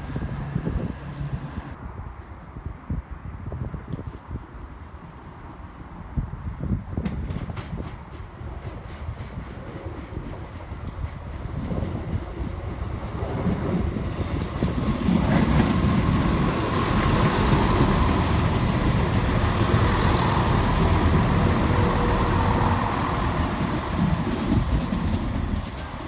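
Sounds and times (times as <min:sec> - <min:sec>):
diesel train passing: 0:04.8 - 0:26.0.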